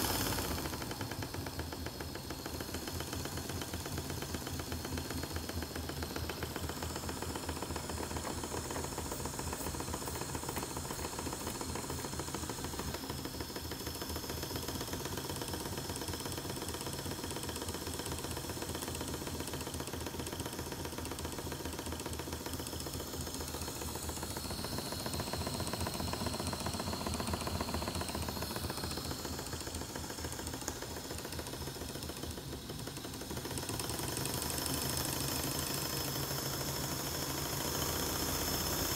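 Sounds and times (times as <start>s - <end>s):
steam engine running: 0.0s - 38.9s.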